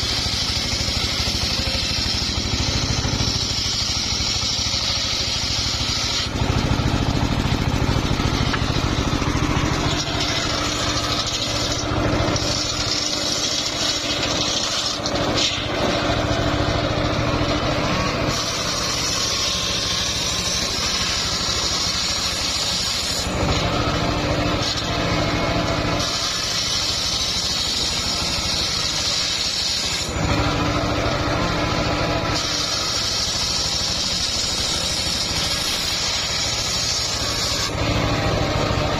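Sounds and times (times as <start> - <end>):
circular sawmill sawing log: 0.0 - 38.9.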